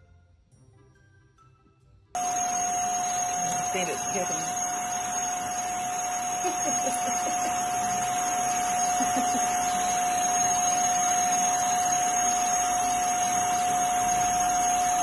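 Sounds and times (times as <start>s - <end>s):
vacuum cleaner running: 2.2s - 15.0s.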